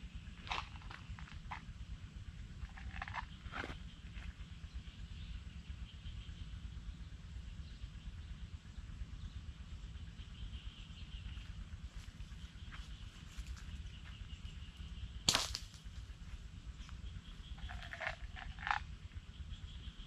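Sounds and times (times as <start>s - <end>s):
insect drone: 0.0s - 20.0s
low rumble: 0.0s - 20.0s.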